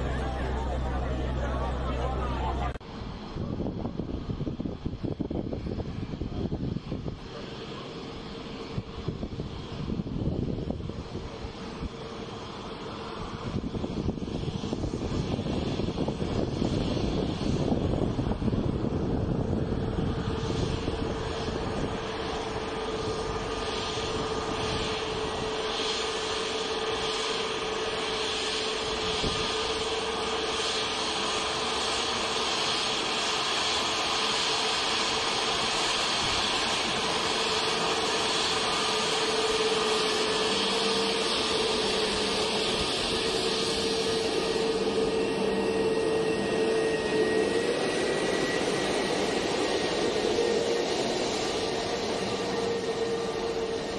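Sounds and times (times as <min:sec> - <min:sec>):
jet engines idling: 0:00.0 - 0:53.9.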